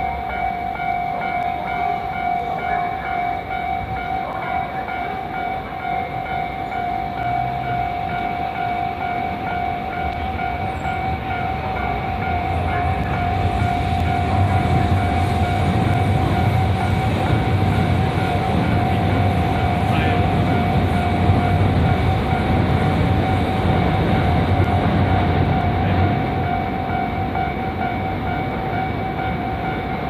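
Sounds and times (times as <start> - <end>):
level crossing bell ringing: 0.0 - 30.0
train rumble: 0.0 - 30.0.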